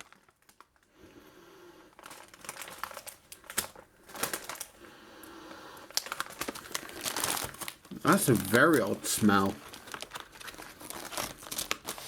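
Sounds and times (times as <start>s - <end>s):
plastic packet crinkling: 0.0s - 0.9s, 1.9s - 4.9s, 5.8s - 12.0s.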